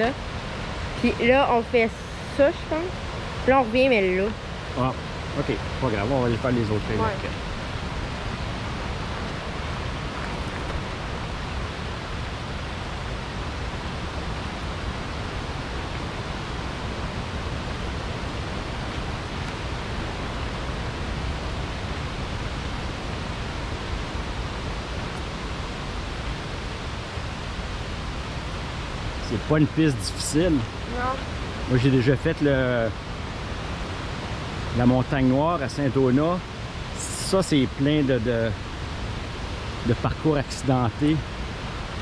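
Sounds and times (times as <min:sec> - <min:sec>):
waterfall and river rushing: 0:00.0 - 0:42.0.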